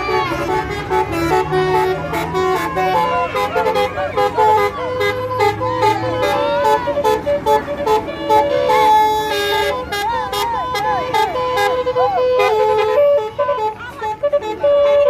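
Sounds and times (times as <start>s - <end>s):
musical bus horn melody: 0.0s - 15.0s.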